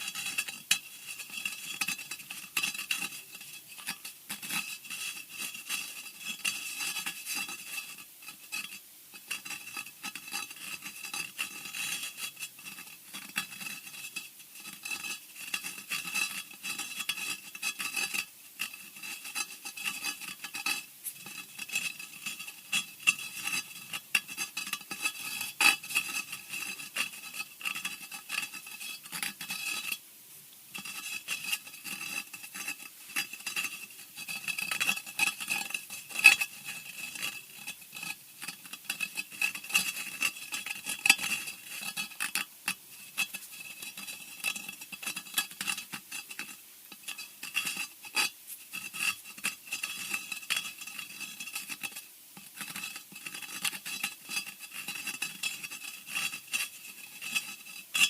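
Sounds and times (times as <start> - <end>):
scratching on hard surface: 0.0 - 30.0, 30.7 - 58.0.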